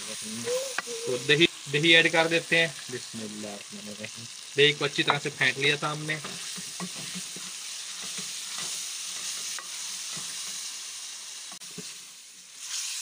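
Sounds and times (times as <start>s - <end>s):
curry sizzling in a pot: 0.0s - 13.0s.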